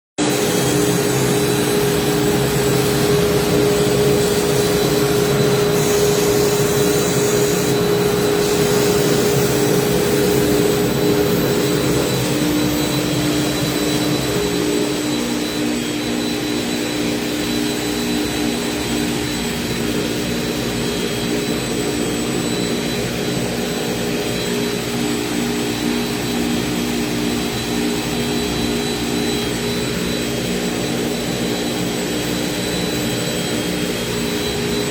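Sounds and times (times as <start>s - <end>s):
router spindle whining while cutting: 0.3s - 34.9s.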